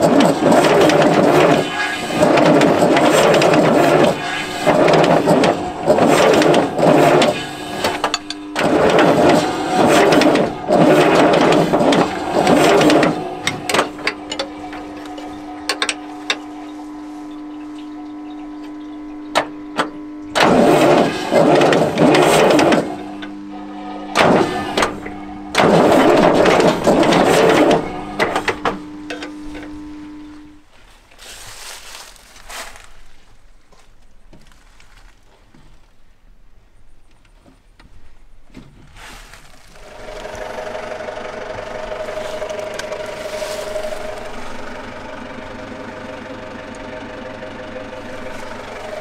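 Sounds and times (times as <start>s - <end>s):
steady hum: 0.0s - 34.5s, 39.3s - 49.0s
diesel engine cranking: 0.0s - 35.0s, 38.1s - 49.0s.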